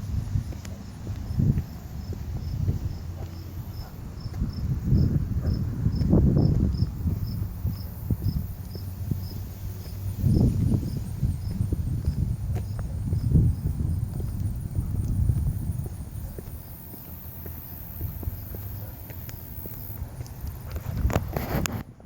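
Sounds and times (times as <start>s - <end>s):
footsteps on pavement: 0.0s - 22.0s
insect chirping: 0.1s - 20.7s.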